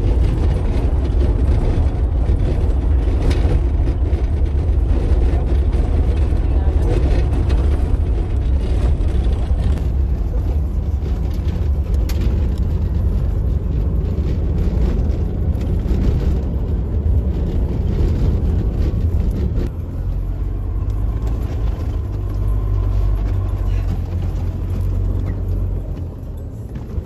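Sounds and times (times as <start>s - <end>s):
vehicle rumble on sandy track: 0.0s - 27.0s.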